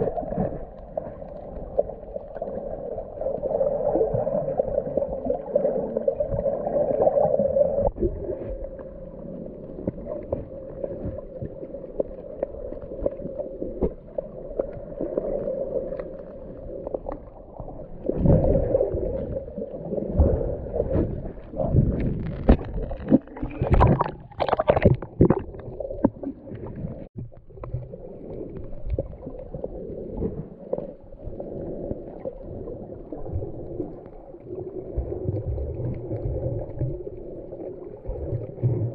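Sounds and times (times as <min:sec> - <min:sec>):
splashing and bubble bursts: 0:00.0 - 0:38.9
underwater gurgling and bubbling: 0:00.0 - 0:38.9.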